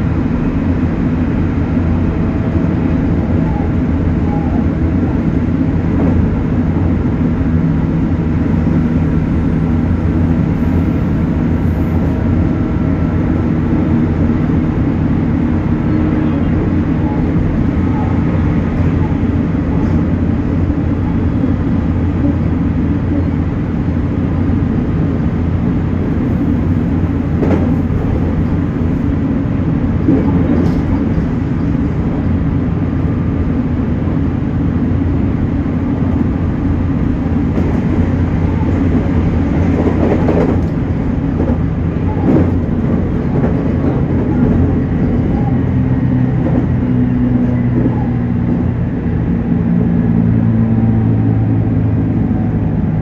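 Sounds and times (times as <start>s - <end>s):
train running hum: 0.0s - 53.0s.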